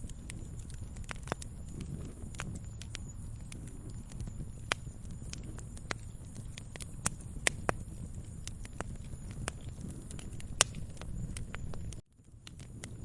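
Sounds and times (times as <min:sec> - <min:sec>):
low rumble of burning fire: 0:00.0 - 0:13.0
wood fire crackling: 0:00.0 - 0:13.0.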